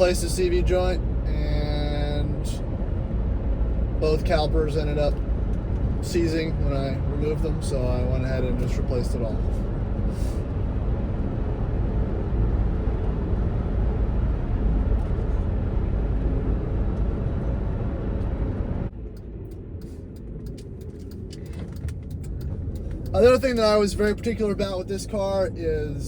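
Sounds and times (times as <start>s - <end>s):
car cabin road noise: 0.0s - 26.0s.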